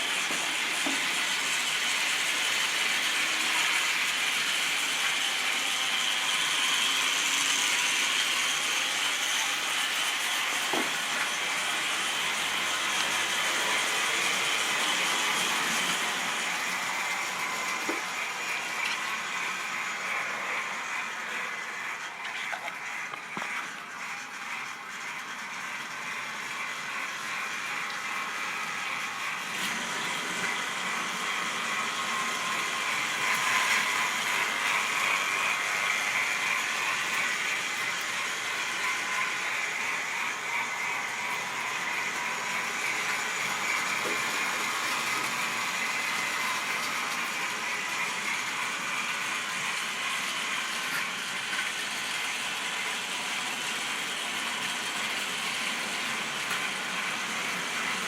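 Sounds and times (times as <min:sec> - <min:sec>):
model train motor whirring: 0:00.0 - 0:58.0.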